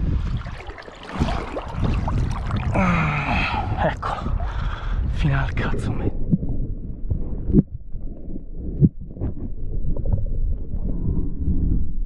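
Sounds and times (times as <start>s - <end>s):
muffled underwater water rumble: 0.0s - 12.0s.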